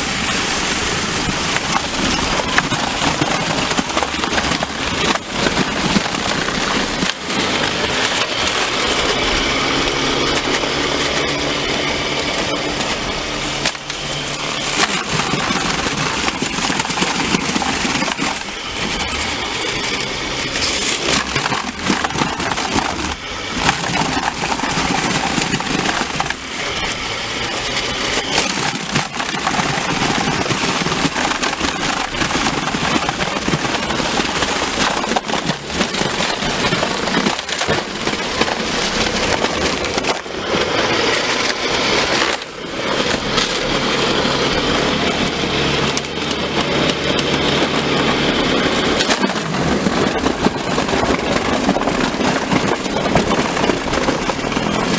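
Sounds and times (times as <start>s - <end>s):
snow blower crunching ice: 0.0s - 54.9s.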